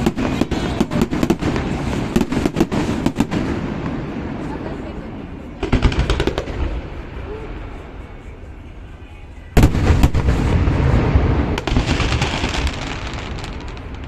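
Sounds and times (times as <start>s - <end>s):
fireworks bursting: 0.0s - 14.0s
fireworks crackling: 0.0s - 14.0s.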